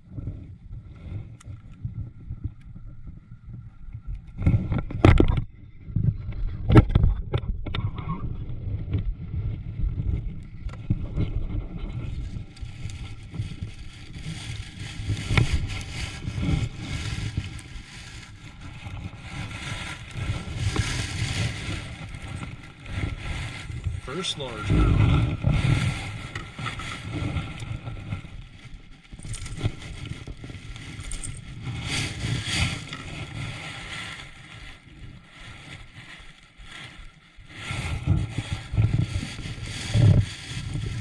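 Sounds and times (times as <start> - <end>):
wind on microphone: 0.0 - 41.0.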